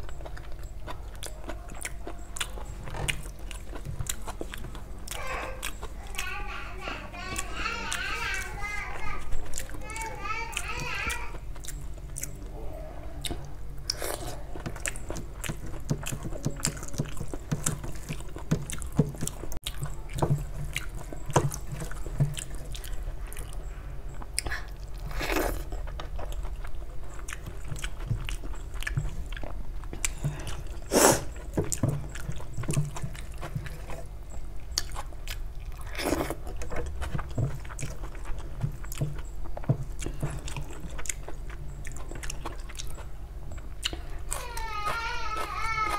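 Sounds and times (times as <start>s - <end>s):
chewing and lip smacks: 0.0s - 6.0s, 11.4s - 12.5s, 13.2s - 44.4s.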